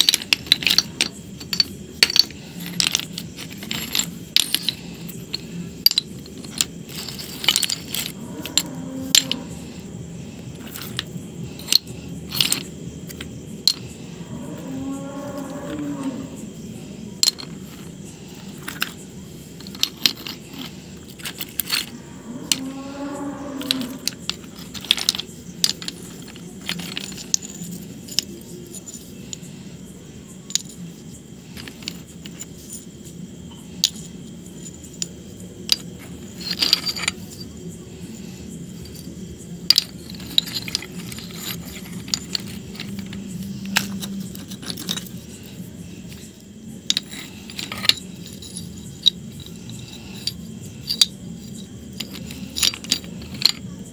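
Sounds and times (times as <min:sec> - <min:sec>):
stones clicking together: 0:00.0 - 0:13.9, 0:17.2 - 0:22.8, 0:23.6 - 0:29.1, 0:30.5 - 0:32.9, 0:33.8 - 0:37.5, 0:38.8 - 0:53.7.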